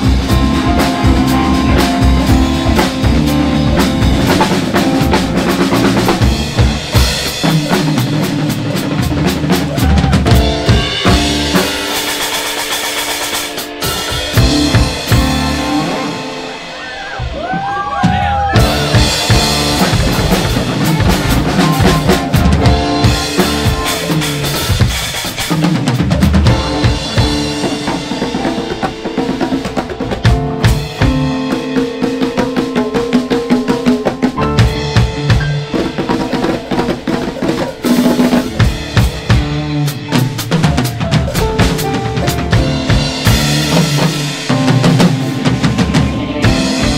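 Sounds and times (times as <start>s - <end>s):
electric guitar: 0.0s - 17.6s, 18.2s - 46.9s
bass guitar: 0.0s - 46.9s
drum kit playing: 0.0s - 46.9s
piano: 0.0s - 46.9s.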